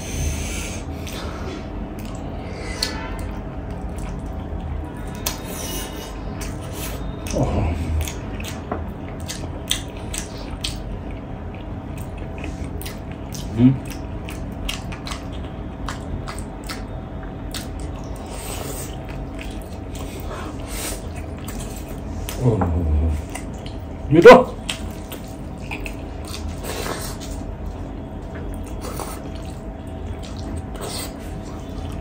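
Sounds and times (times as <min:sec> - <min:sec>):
chewing and mouth smacks: 0:01.9 - 0:22.4, 0:23.1 - 0:24.0, 0:24.6 - 0:32.0.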